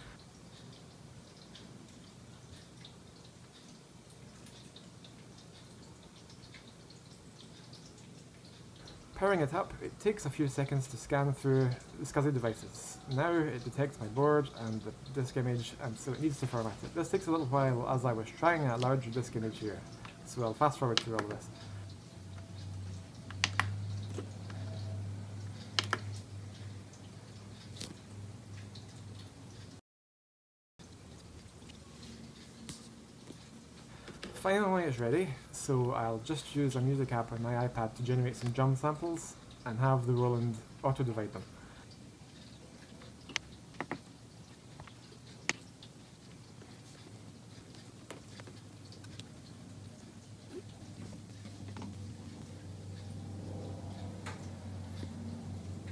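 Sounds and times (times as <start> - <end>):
low electrical hum: 0.0 - 29.8, 30.8 - 55.9.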